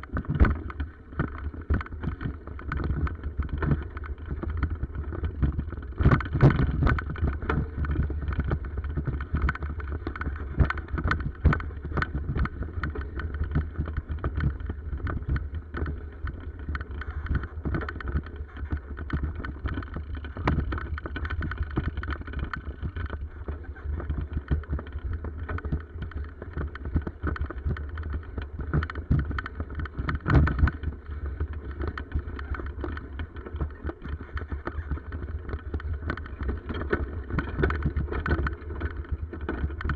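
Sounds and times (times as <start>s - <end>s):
bicycle on rough forest track: 0.0s - 39.9s.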